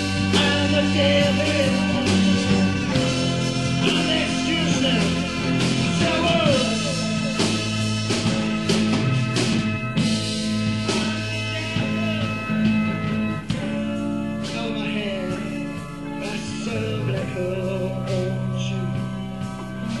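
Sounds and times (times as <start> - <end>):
psychedelic rock song: 0.0 - 20.0.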